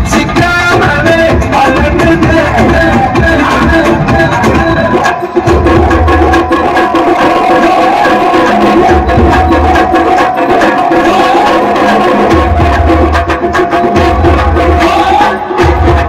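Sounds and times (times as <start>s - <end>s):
dance music over loudspeaker: 0.0s - 16.0s.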